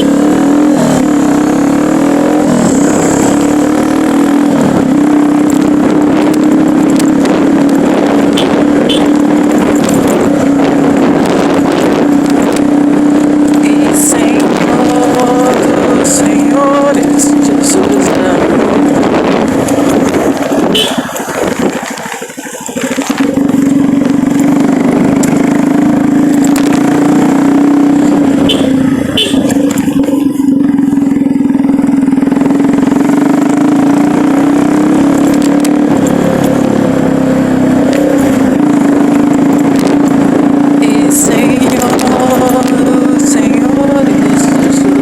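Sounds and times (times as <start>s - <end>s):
road and wind noise: 0.0s - 45.0s
vehicle engine running: 0.0s - 45.0s.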